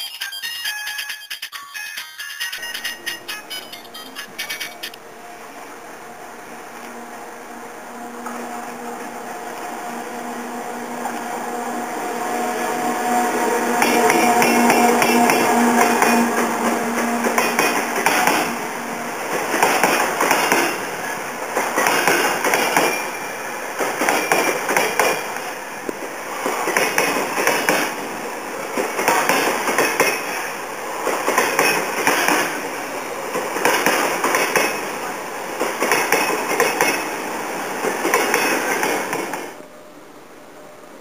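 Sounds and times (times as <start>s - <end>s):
freight train rumbling past: 2.6s - 41.0s.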